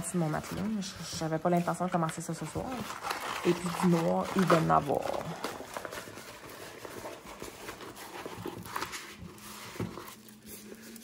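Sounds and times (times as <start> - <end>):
canvas rustling and crinkling: 0.0 - 11.0.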